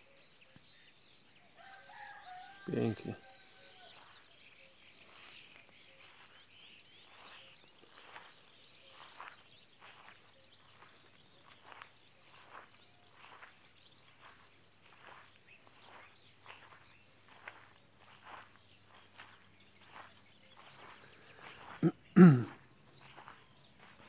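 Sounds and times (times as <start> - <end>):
faint birdsong: 0.0 - 24.0
footsteps through grass: 1.6 - 24.0.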